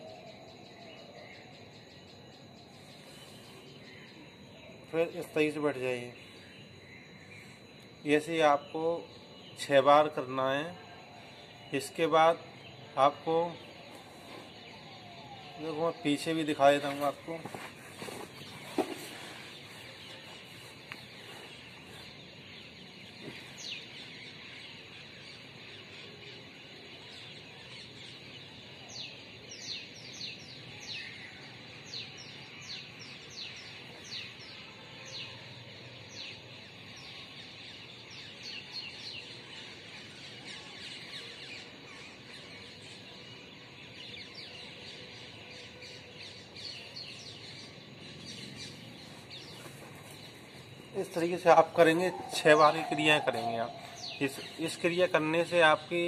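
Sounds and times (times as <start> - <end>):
birds chirping: 0.0 - 56.0
background hiss: 1.8 - 56.0.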